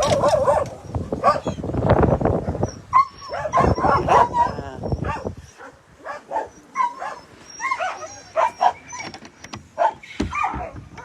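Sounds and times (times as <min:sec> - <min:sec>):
dogs whining and yipping: 0:00.0 - 0:11.0.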